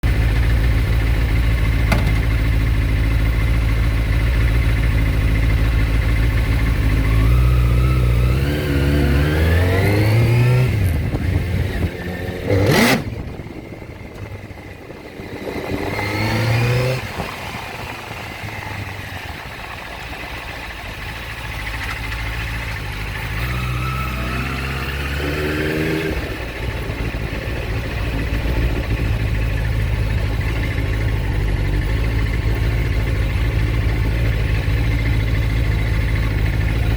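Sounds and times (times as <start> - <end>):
motorcycle engine revving: 0.0 - 13.8, 15.1 - 36.9.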